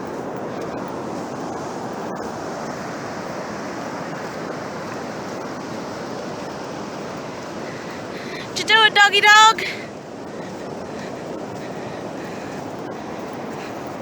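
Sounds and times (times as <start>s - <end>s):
ocean surf washing up beach: 0.0s - 14.0s.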